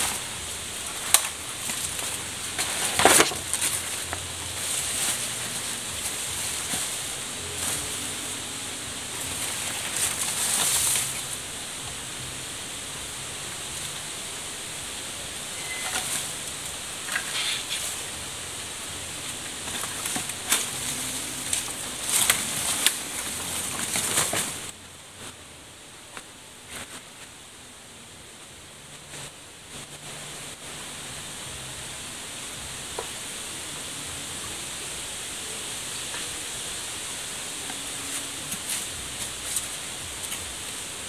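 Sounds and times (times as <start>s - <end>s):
dry leaves rustling and crackling: 0.0s - 25.4s, 26.1s - 27.4s, 28.8s - 41.0s
steady high hiss: 0.0s - 41.0s.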